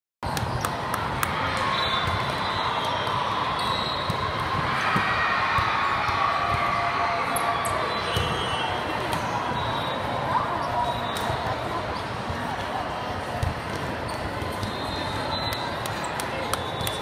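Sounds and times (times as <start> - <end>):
crowd noise in a hall: 0.2 - 17.0.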